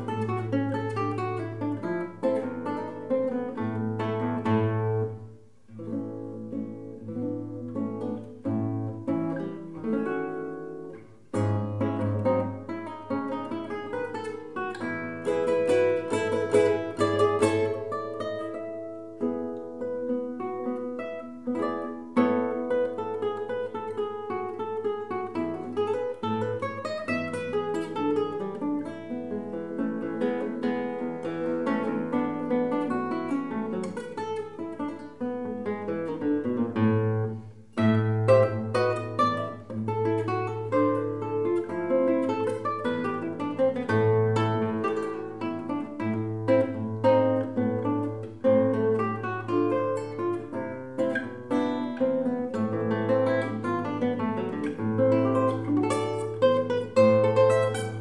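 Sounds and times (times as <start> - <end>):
fingerpicked classical guitar: 0.0 - 58.0.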